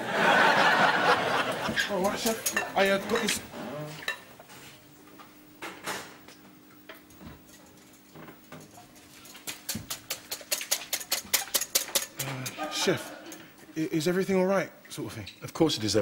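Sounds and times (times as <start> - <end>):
faint kitchen hum: 0.0 - 16.0.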